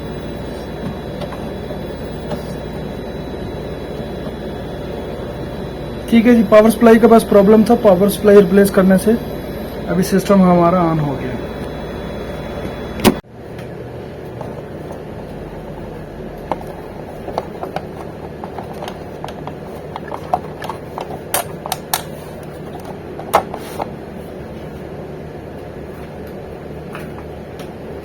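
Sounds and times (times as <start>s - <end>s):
printer mechanism whirring: 0.0s - 24.9s.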